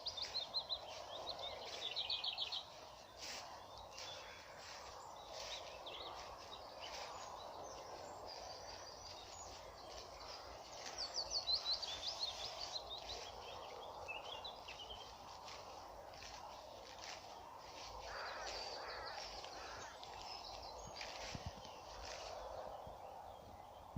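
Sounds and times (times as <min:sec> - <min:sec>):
songbirds singing: 0:00.0 - 0:23.9.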